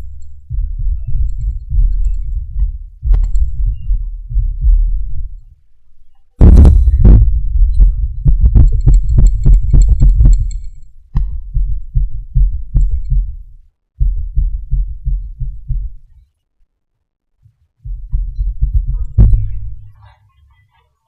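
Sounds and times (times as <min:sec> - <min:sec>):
muffled thuds and rubs on microphone: 0:00.0 - 0:05.4, 0:06.4 - 0:16.1, 0:17.4 - 0:20.2.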